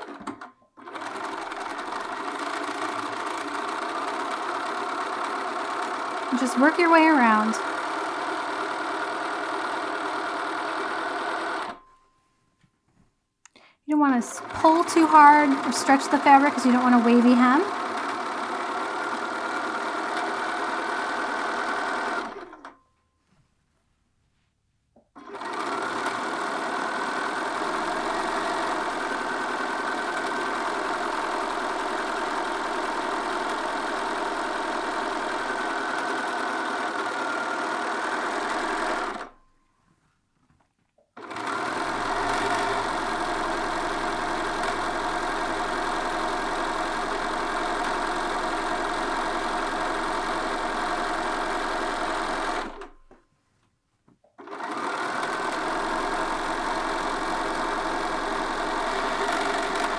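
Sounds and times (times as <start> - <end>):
sewing machine stitching: 0.0 - 11.8, 14.0 - 22.8, 25.1 - 39.4, 41.1 - 53.2, 54.4 - 59.9.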